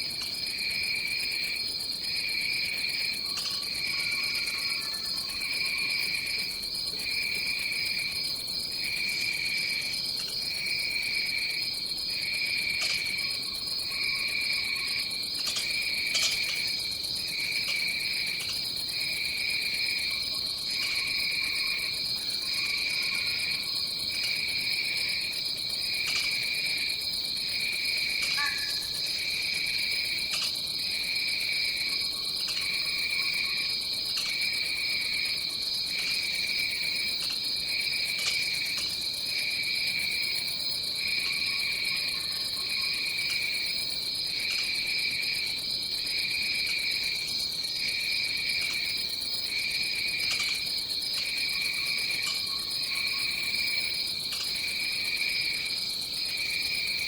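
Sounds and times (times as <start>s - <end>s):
insects trilling: 0.0s - 57.0s
low pulsing insect call: 0.0s - 57.0s.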